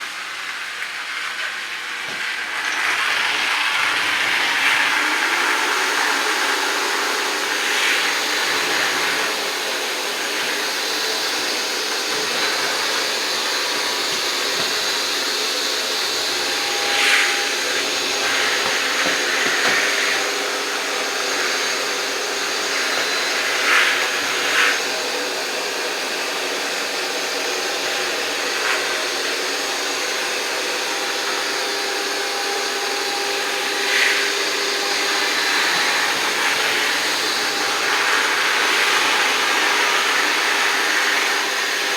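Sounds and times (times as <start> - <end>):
robot vacuum whirring: 0.1 - 41.9.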